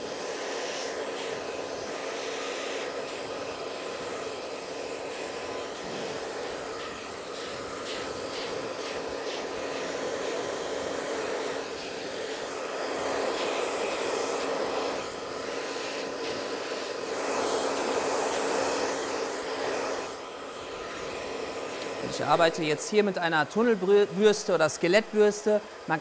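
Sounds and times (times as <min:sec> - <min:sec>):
hair dryer blowing: 0:00.0 - 0:26.0.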